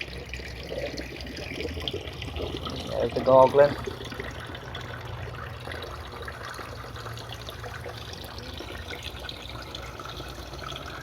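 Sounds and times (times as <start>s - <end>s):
water gurgling and trickling: 0.0s - 11.0s.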